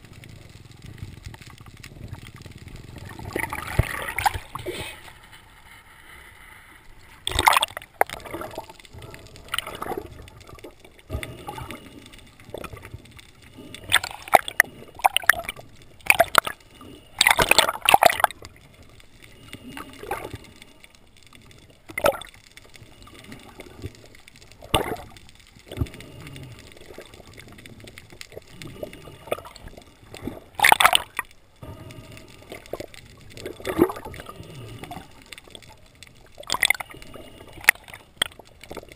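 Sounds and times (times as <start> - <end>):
splashing and bubbling: 0.0 - 5.4, 7.2 - 38.9
seawater gurgling and sloshing: 0.0 - 38.9.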